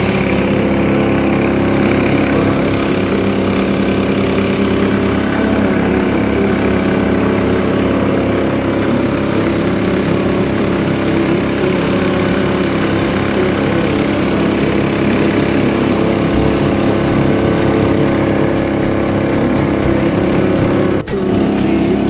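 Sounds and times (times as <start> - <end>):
motorboat engine running: 0.0 - 22.0.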